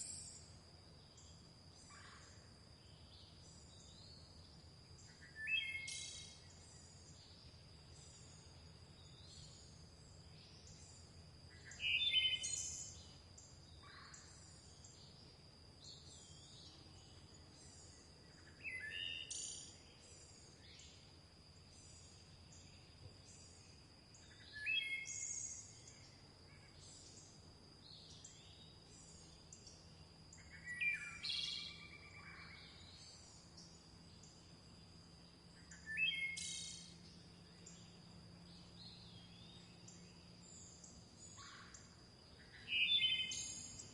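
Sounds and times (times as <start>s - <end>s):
faint high bird chirping: 0.0s - 43.9s.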